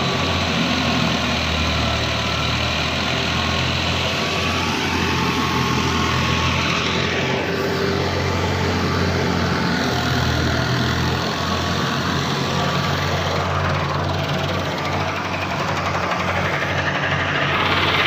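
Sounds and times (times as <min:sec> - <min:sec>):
farm machinery diesel engine: 0:00.0 - 0:18.0.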